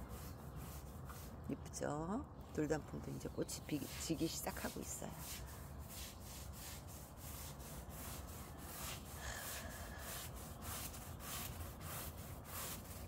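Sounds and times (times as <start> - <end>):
brushing and scraping strokes: 0.0 - 1.6, 3.1 - 13.0.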